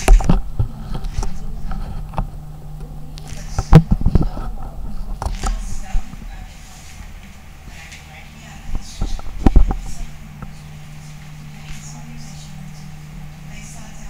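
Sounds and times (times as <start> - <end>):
steady low hum: 0.0 - 14.0
indistinct low voices: 0.6 - 14.0.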